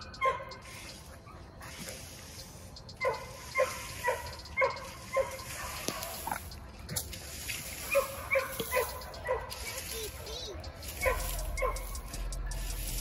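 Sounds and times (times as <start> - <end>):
dog yelping barks: 0.0 - 1.8, 2.8 - 6.6, 7.7 - 12.8.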